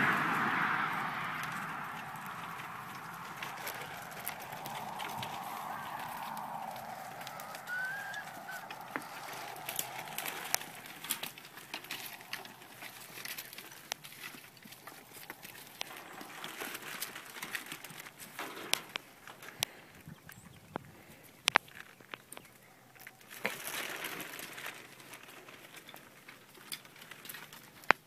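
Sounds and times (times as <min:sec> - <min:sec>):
light clicks and rustles: 0:01.4 - 0:28.0.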